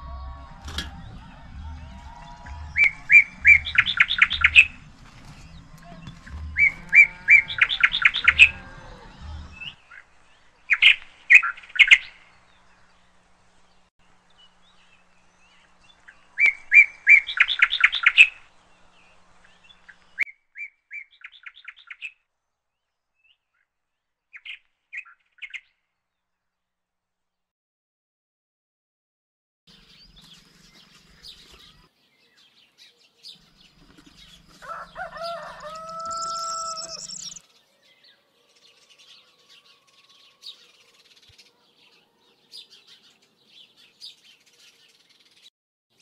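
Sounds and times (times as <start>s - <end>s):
songbird singing: 0.0s - 25.8s, 29.7s - 46.0s.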